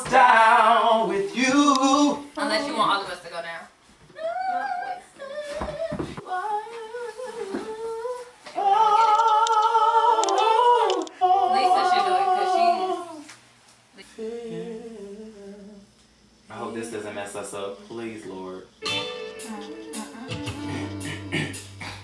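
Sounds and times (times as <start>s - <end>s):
voices singing a cappella: 0.0s - 2.9s, 4.1s - 13.4s, 14.0s - 16.8s, 17.5s - 22.0s.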